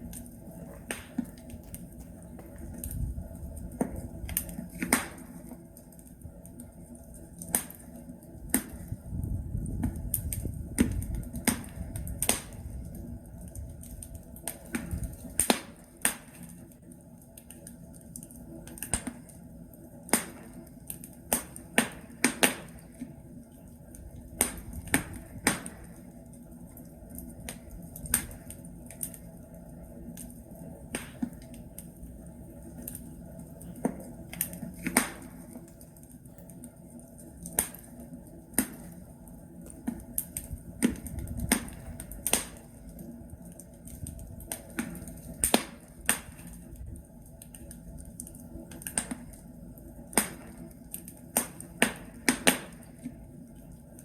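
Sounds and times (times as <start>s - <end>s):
logs crackling and popping: 0.0s - 54.0s
low rumble of fire: 0.0s - 54.0s.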